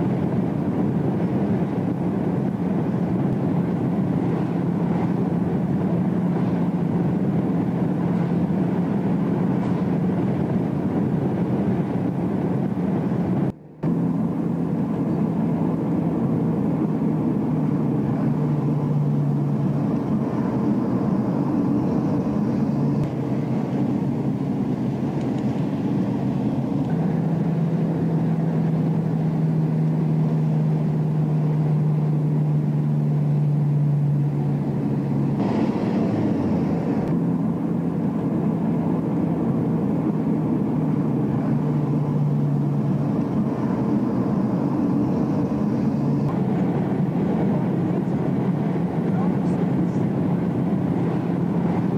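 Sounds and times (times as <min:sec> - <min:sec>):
car engine hum: 0:00.0 - 0:51.9
road noise drone inside car: 0:00.0 - 0:51.9.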